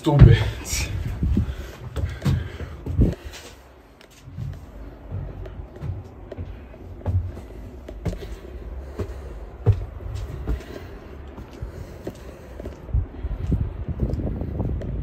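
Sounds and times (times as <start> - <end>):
footsteps on stone stairs: 0.0 - 15.0
low rumble: 0.0 - 15.0.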